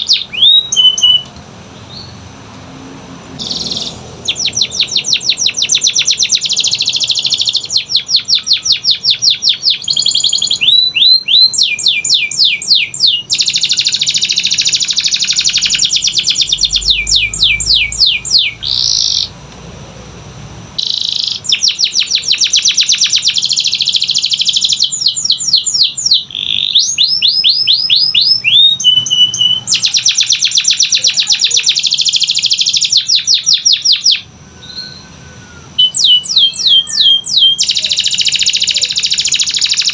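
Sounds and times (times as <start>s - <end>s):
canary singing trills: 0.0s - 2.3s, 3.3s - 19.4s, 20.8s - 39.9s.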